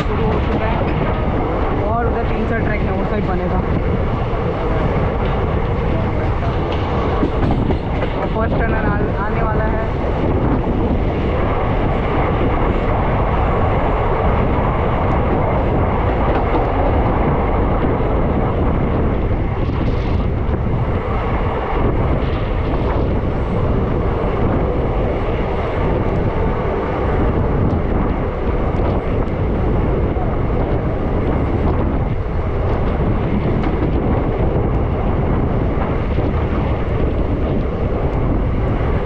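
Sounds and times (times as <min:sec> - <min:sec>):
train rumbling along track: 0:00.0 - 0:39.0.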